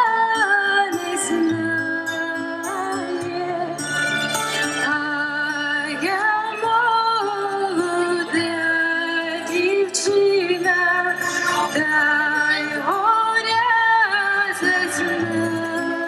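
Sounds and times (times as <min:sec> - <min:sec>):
woman singing folk song: 0:00.0 - 0:04.0, 0:04.8 - 0:16.0
instrumental accompaniment: 0:00.0 - 0:16.0.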